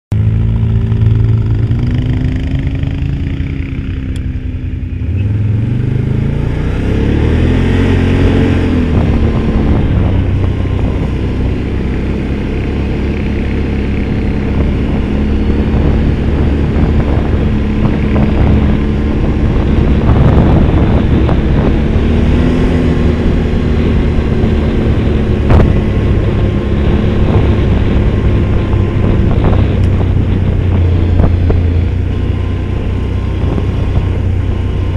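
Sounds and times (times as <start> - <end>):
off-road vehicle engine revving: 0.1 - 34.9.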